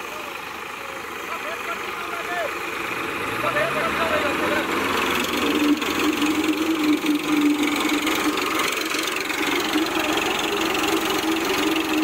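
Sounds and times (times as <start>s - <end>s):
second tractor engine: 0.0s - 12.0s
tractor diesel engine running: 0.0s - 12.0s.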